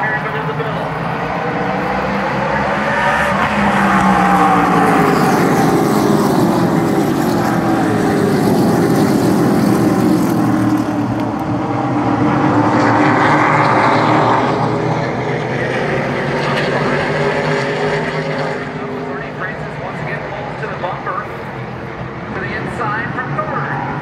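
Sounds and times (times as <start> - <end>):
race cars passing at speed: 0.0 - 24.0.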